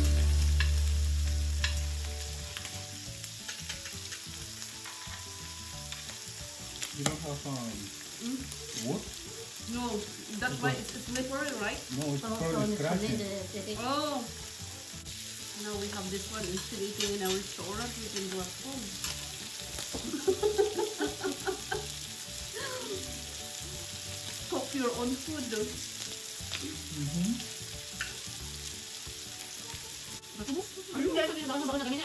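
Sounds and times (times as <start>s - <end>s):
meat sizzling on grill: 0.0s - 32.0s.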